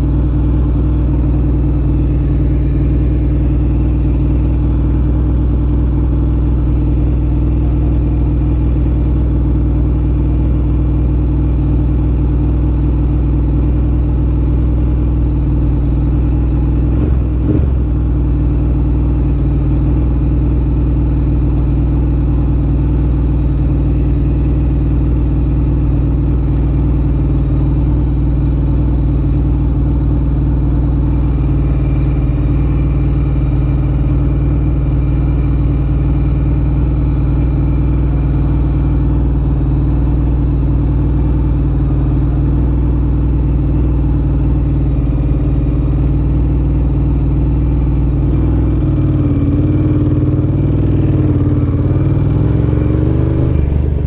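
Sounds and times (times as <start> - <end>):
motorcycle engine running steadily: 0.0 - 54.0.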